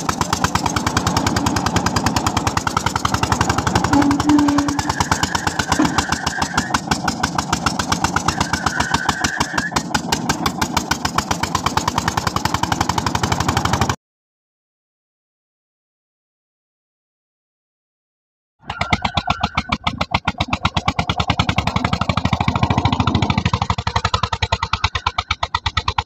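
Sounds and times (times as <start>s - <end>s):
diesel engine chugging: 0.0s - 14.0s, 18.6s - 26.0s.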